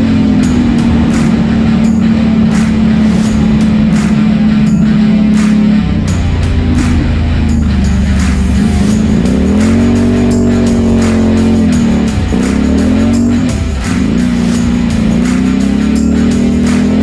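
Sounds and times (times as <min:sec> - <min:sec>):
atv engine revving: 0:00.0 - 0:17.0
music with a steady beat: 0:00.0 - 0:17.0.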